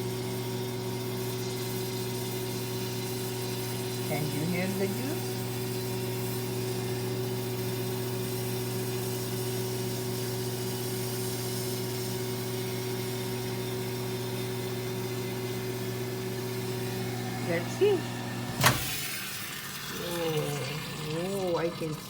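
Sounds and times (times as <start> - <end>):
microwave oven humming: 0.0 - 21.9
apple juice sizzling: 0.0 - 22.0.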